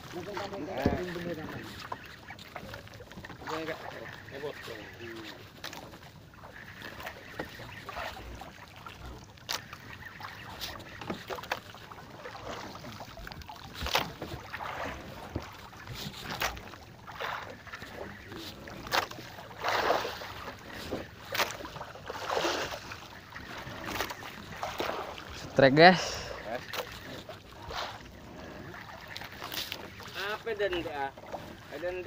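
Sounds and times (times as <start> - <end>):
water splashing against boat: 0.0 - 32.0.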